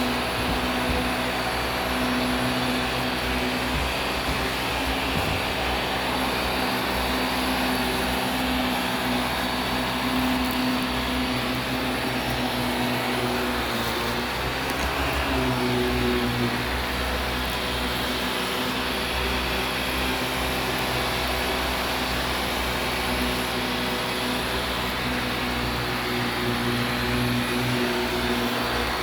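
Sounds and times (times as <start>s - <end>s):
vacuum cleaner on carpet: 0.0s - 29.0s.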